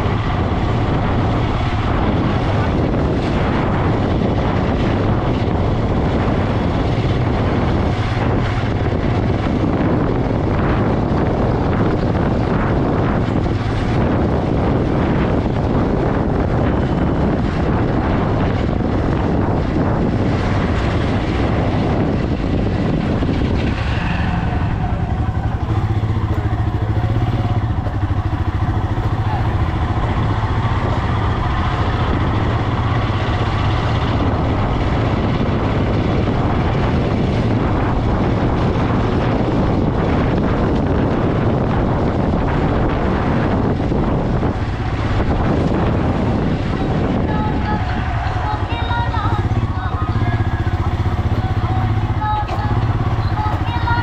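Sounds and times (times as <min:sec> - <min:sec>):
motorcycle engine hum: 0:00.0 - 0:54.0
wind noise on microphone: 0:00.0 - 0:54.0.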